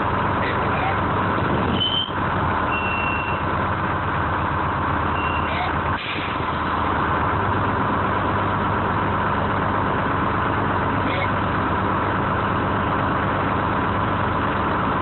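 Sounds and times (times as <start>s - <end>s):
crane engine running steadily: 0.0s - 15.0s.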